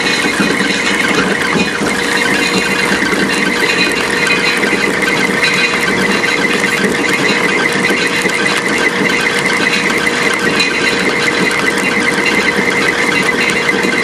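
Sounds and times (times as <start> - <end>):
rubber grinder and blower running: 0.0 - 14.0.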